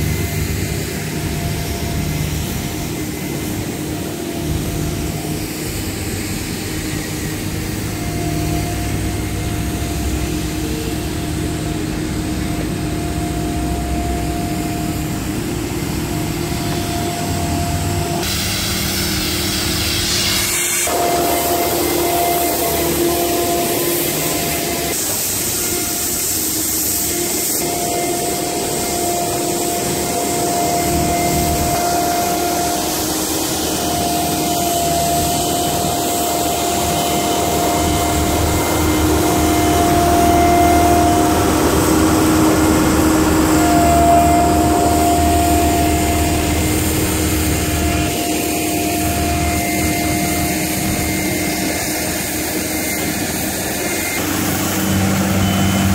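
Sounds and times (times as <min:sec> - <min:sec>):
heavy machinery diesel engine: 0:00.0 - 0:55.9
machinery whine: 0:00.0 - 0:55.9.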